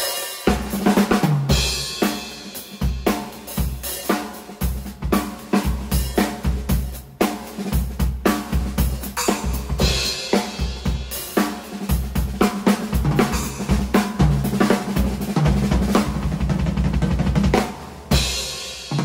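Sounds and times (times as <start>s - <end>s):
drum kit played with sticks: 0.0s - 19.0s.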